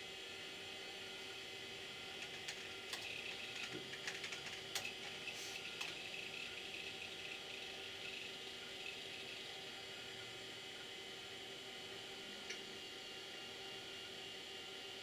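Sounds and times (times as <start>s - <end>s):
desktop computer whirring: 0.4s - 15.0s.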